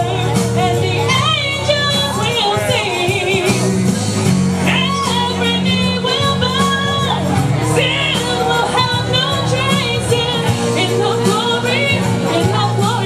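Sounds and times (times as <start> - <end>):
woman singing into microphone: 0.0 - 3.8, 4.6 - 13.0
instrumental backing: 0.0 - 13.0.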